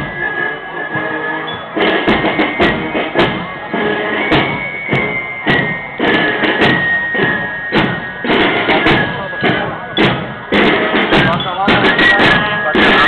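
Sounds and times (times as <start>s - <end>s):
flute melody: 0.0s - 13.0s
snare drum strikes: 1.8s - 13.0s.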